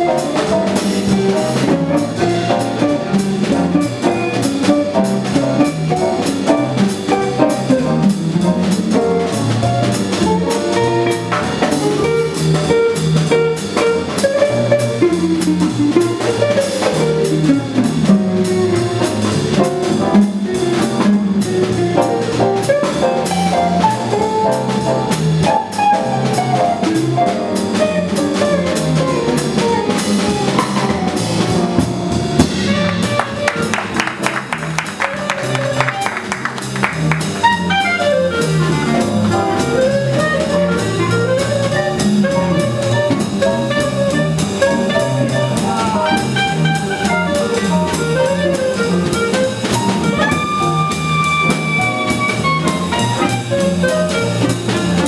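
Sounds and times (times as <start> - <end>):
clarinet: 0.0 - 55.0
drum kit: 0.0 - 55.0
piano: 0.0 - 55.0
walking double bass: 0.0 - 55.0.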